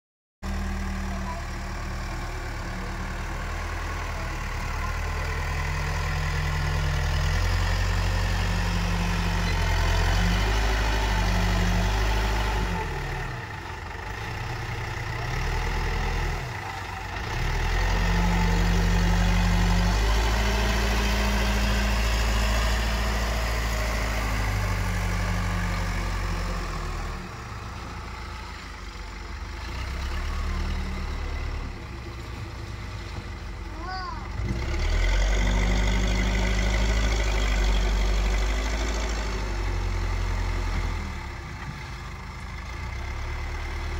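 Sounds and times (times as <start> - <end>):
diesel engine revving: 0.4 - 43.9.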